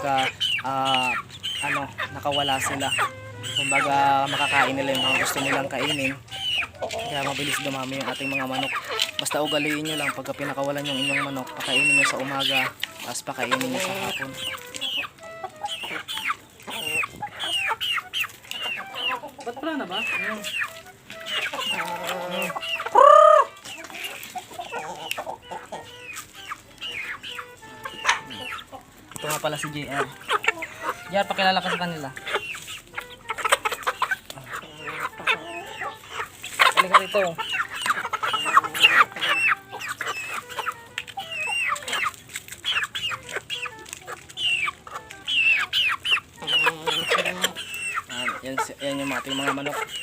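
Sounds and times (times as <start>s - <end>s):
chicken drawn-out call: 0.0s - 50.0s
chickens clucking: 0.0s - 50.0s.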